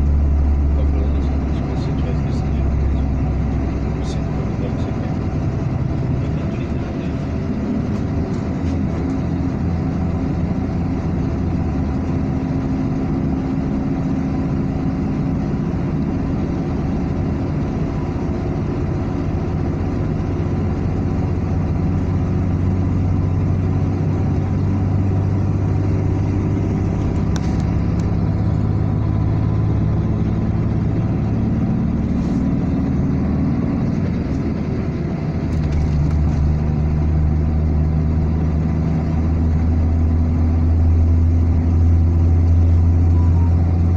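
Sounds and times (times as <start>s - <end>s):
car engine humming: 0.0s - 43.9s.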